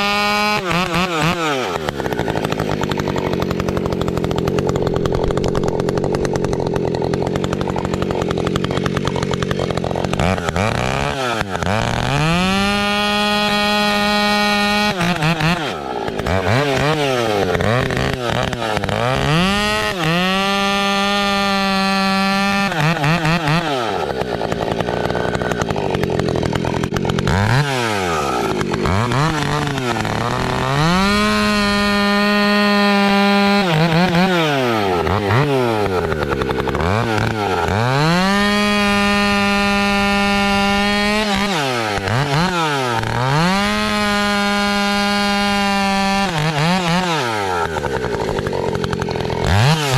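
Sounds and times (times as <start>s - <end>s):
chainsaw revving and cutting: 0.0s - 49.9s.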